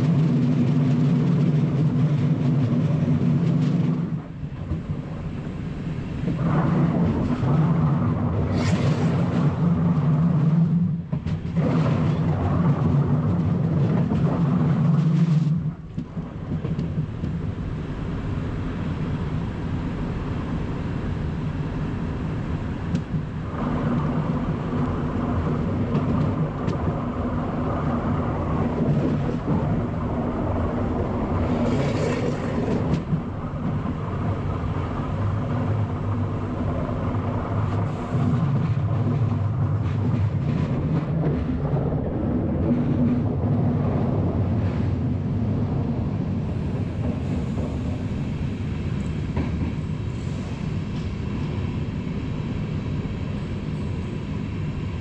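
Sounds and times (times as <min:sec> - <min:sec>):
electric train running rumble: 0:00.0 - 0:55.0.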